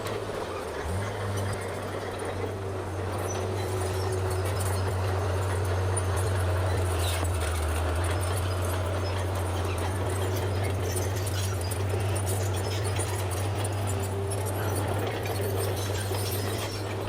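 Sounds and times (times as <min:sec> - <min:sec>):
bulldozer diesel engine drone: 0:00.0 - 0:17.0.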